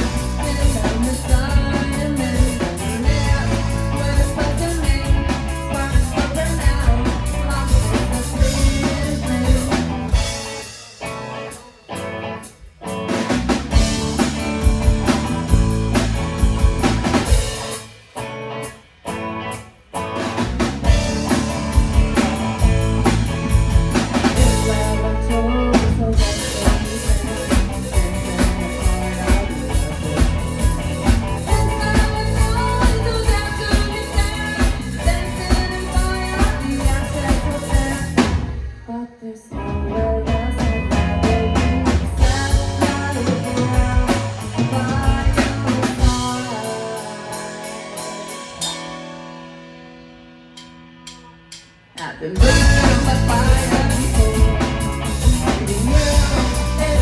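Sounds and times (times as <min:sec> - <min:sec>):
drum kit: 0:00.0 - 0:57.0
live band playing: 0:00.0 - 0:57.0.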